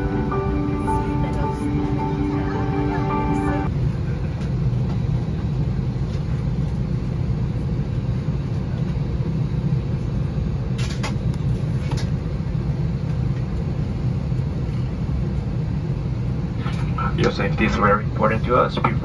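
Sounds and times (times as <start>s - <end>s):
cabin ventilation hum: 0.0s - 19.0s.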